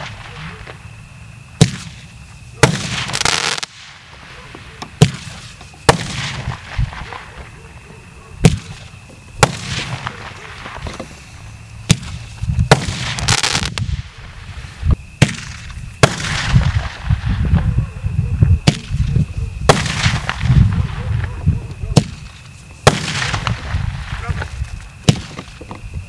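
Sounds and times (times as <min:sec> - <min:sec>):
firework sharp pops: 0:00.0 - 0:00.9, 0:01.5 - 0:07.6, 0:08.4 - 0:17.7, 0:18.6 - 0:25.8
burning star hiss: 0:00.0 - 0:07.8, 0:08.4 - 0:26.0
crackling hiss: 0:00.0 - 0:26.0.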